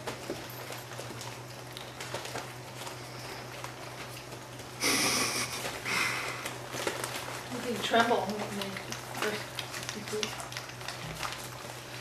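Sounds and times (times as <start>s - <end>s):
puppies clicking and scuffling: 0.0s - 12.0s
steady low hum: 0.0s - 12.0s.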